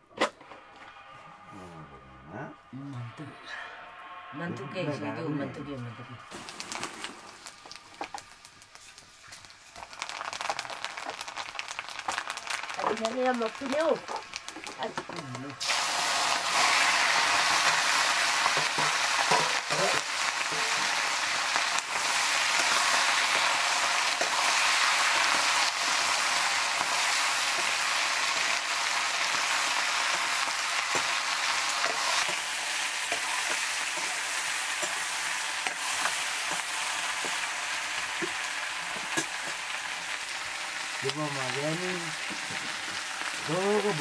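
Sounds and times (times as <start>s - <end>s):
food sizzling in hot oil: 5.6s - 44.0s.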